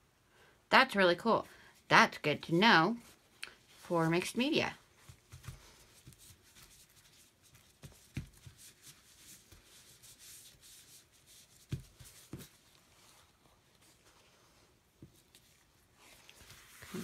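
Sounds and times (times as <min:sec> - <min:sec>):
soft rubbing of paper towel: 0:02.9 - 0:17.0.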